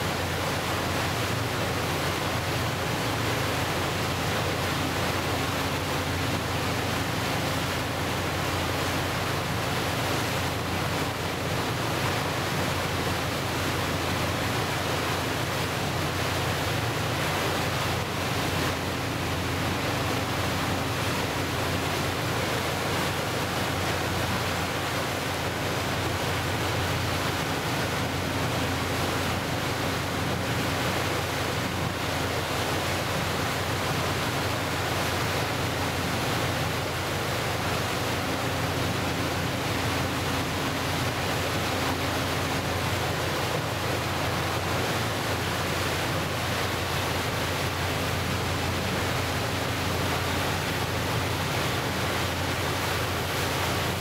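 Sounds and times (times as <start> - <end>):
boat moving through choppy water: 0.0 - 54.0
low engine hum: 0.0 - 54.0.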